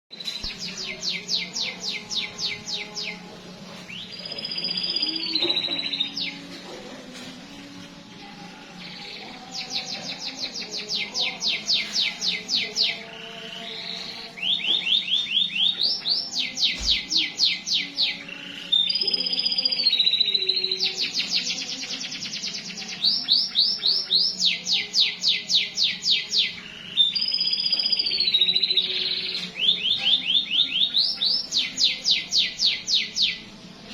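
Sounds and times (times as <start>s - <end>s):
canary singing: 0.1s - 33.9s.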